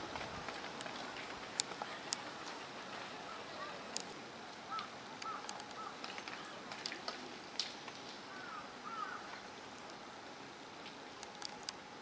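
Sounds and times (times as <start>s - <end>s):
faint open-air ambience: 0.0s - 12.0s.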